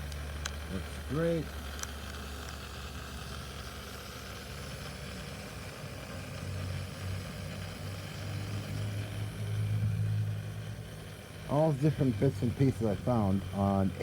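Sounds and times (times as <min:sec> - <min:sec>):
lathe motor humming: 0:00.0 - 0:14.0.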